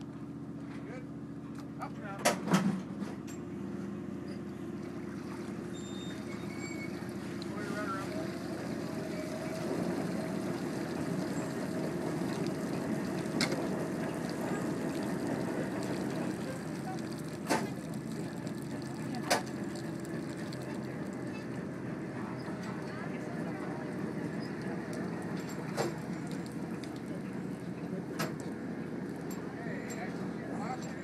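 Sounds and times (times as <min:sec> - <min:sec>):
deck winch running: 0:03.3 - 0:31.0.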